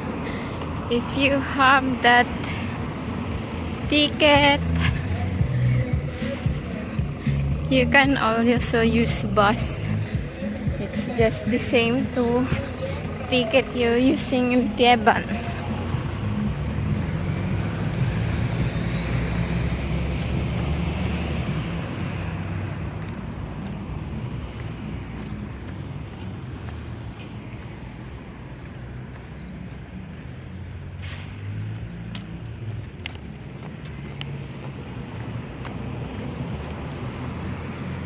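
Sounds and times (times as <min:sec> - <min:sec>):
traffic noise: 0:00.0 - 0:38.0
vehicle engine running: 0:00.0 - 0:38.0.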